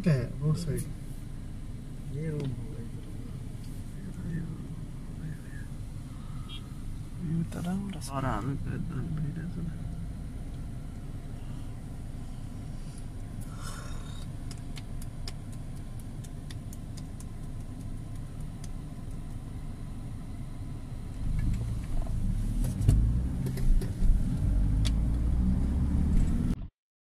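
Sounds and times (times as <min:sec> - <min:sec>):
car rumbling on road: 0:00.0 - 0:26.7.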